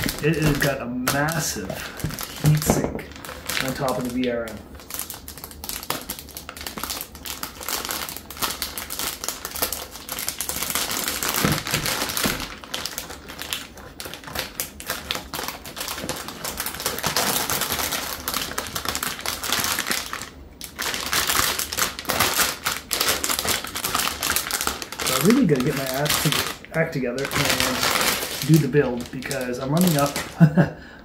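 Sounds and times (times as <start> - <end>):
plastic bag crinkling: 0.0 - 30.9.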